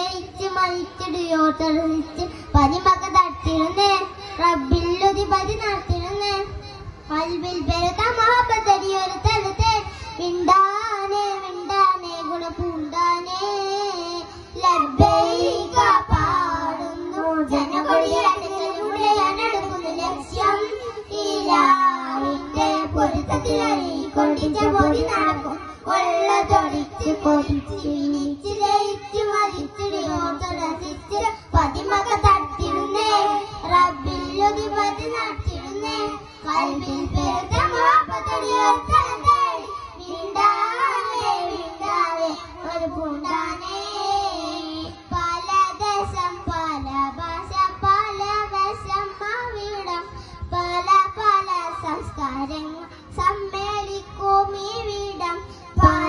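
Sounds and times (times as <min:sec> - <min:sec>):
boys singing through pa: 0:00.0 - 0:56.0.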